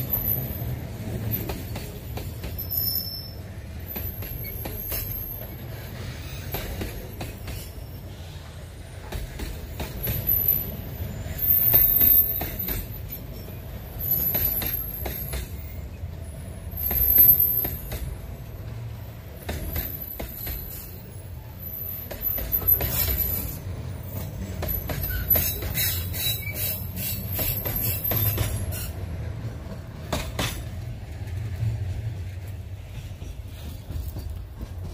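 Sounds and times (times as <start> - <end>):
train wheels squealing: 0.0 - 29.4
freight train rumbling past: 0.0 - 34.9.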